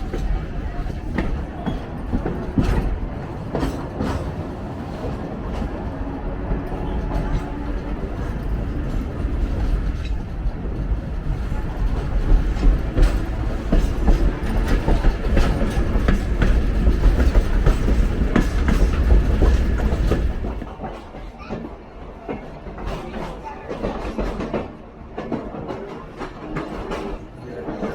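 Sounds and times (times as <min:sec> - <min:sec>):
railroad car rumbling: 0:00.0 - 0:27.9.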